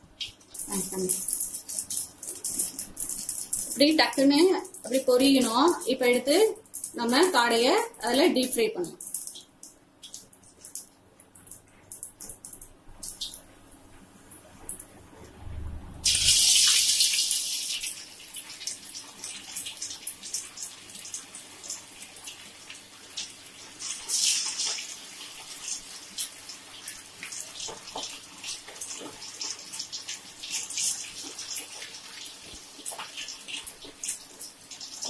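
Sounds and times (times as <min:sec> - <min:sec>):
deep-frying sizzle and popping: 0:00.0 - 0:15.3, 0:16.0 - 0:35.0.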